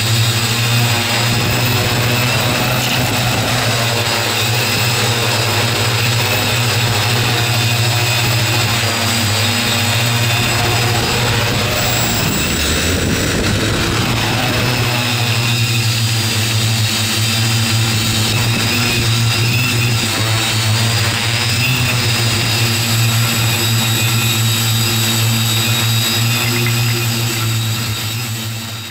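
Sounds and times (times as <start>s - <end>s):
drone motors and propellers whining: 0.0s - 28.9s.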